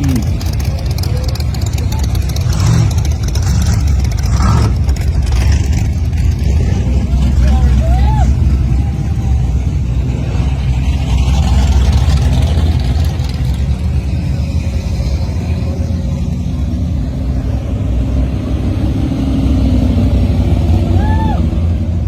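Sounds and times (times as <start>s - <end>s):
car engine rumbling at low revs: 0.0s - 22.0s.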